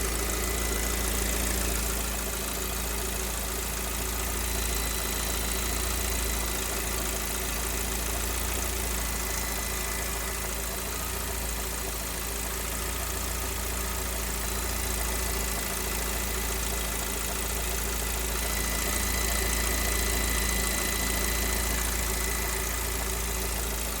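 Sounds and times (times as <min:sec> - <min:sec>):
car engine running: 0:00.0 - 0:24.0
engine knock: 0:00.0 - 0:24.0.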